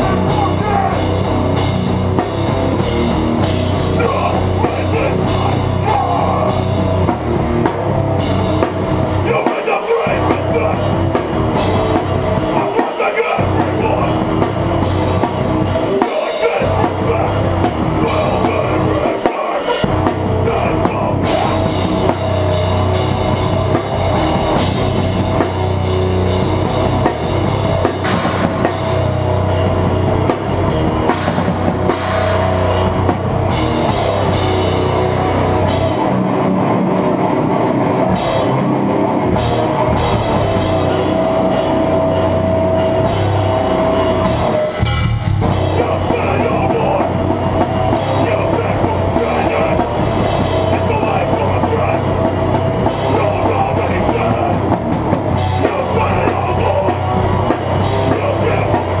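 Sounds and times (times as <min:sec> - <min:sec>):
drum kit with cymbals: 0:00.0 - 0:36.2, 0:39.3 - 0:59.0
hardcore band playing live: 0:00.0 - 0:59.0.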